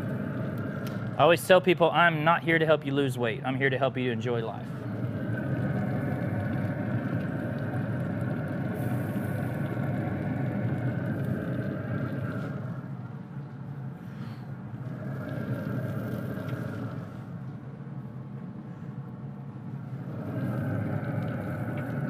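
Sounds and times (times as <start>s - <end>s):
fans whirring: 0.0s - 22.0s.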